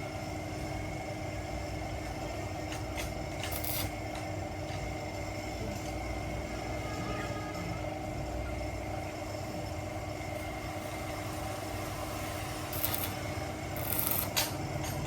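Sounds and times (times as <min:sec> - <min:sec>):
machine humming and rumbling: 0:00.0 - 0:15.0.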